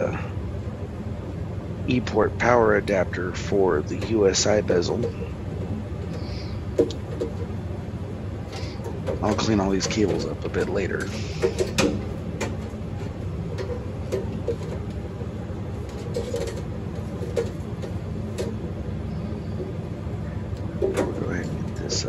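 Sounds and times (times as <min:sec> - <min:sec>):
vending machine hum: 0:00.0 - 0:22.0.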